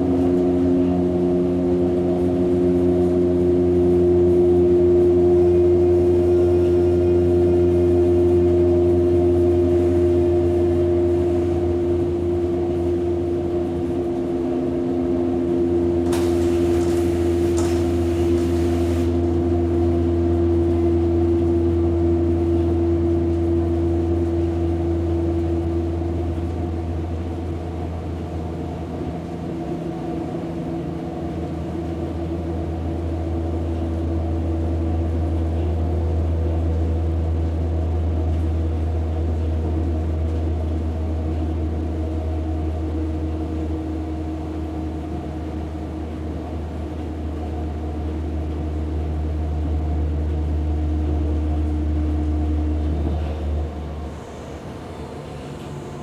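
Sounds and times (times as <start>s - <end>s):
train motors humming: 0.0s - 56.0s.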